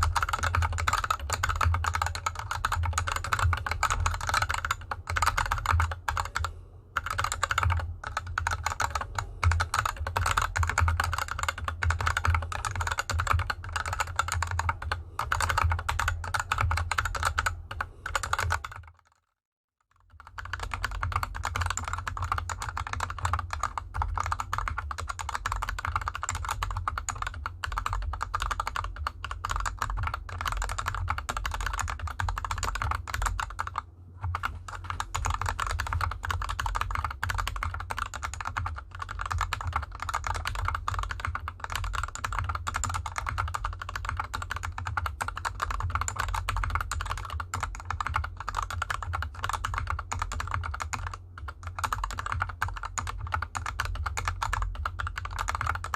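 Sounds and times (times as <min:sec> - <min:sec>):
mechanical keyboard typing: 0:00.0 - 0:19.3, 0:19.9 - 0:55.9.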